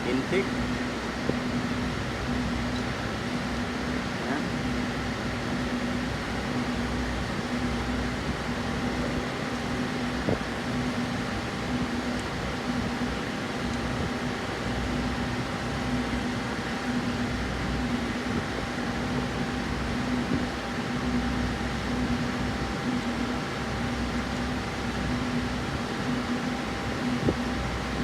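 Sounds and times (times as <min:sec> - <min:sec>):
steady mechanical hum: 0:00.0 - 0:28.0.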